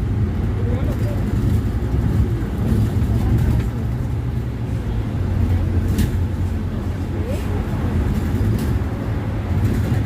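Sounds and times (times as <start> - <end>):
bus engine droning: 0.0 - 10.0
faint voices: 0.4 - 10.0.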